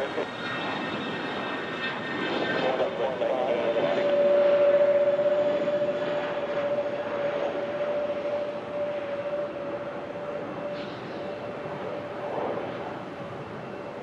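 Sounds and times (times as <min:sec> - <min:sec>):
aircraft engine whine: 0:00.0 - 0:14.0.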